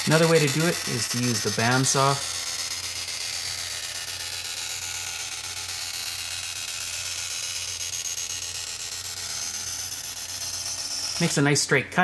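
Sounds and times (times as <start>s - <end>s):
bandsaw cutting metal sheet: 0.0s - 11.6s.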